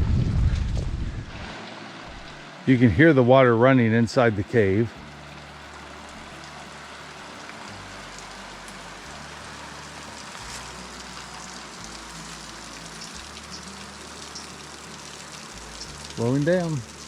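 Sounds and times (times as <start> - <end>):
spring water rushing: 1.2 - 17.0.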